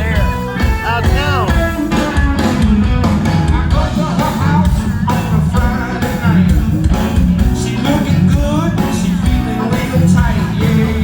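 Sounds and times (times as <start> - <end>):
bass guitar: 0.0 - 11.0
drums: 0.0 - 11.0
electric guitar lead with bent notes: 0.0 - 11.0.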